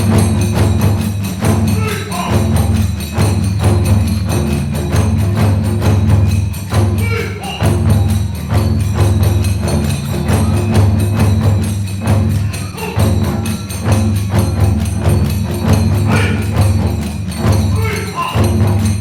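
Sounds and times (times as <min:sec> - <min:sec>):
hand cymbals clashing: 0:00.0 - 0:19.0
taiko drums beating: 0:00.0 - 0:19.0.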